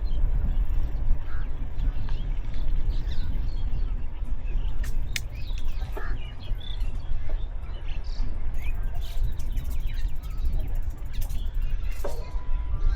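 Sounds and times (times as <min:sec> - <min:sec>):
small birds chirping: 0:00.0 - 0:12.4
steady low rumble: 0:00.0 - 0:12.9.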